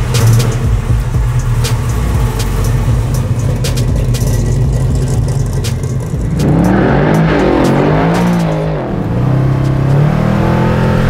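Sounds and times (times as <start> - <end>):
car engine deep exhaust rumble: 0.0 - 11.0.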